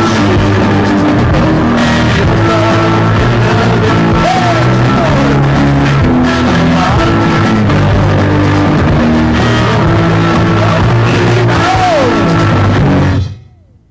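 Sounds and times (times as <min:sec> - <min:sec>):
lead vocal singing: 0:00.0 - 0:13.3
rock band playing: 0:00.0 - 0:13.8.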